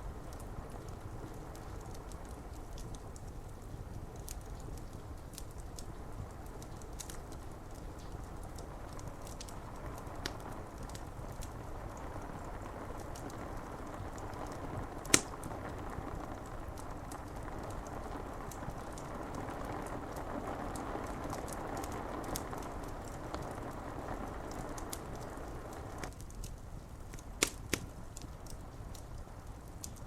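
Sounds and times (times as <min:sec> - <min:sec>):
rain on a window: 0:00.0 - 0:30.0
wood fire crackling: 0:00.0 - 0:30.0.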